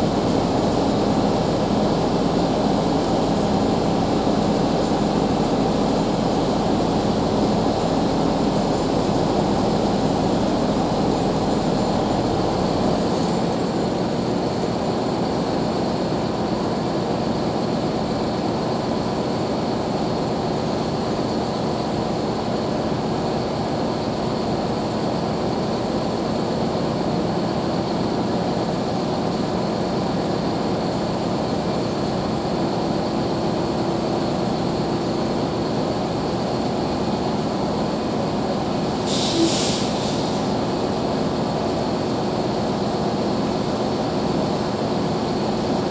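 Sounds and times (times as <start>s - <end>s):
diesel machinery drone: 0.0s - 45.9s.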